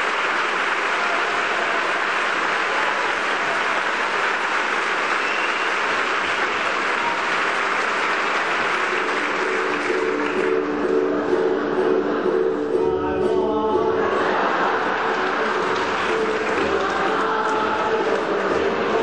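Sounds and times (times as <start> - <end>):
audience applauding: 0.0 - 12.2, 14.1 - 19.0.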